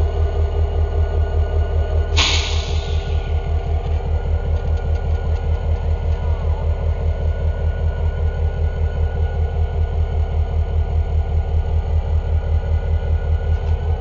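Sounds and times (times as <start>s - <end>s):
diesel locomotive engine idling: 0.0s - 14.0s.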